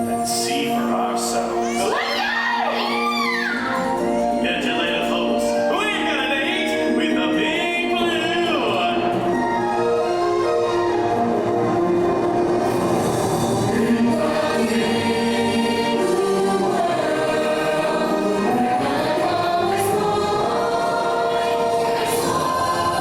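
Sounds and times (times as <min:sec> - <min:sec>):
choir singing: 0:00.0 - 0:23.0
musical accompaniment: 0:00.0 - 0:23.0.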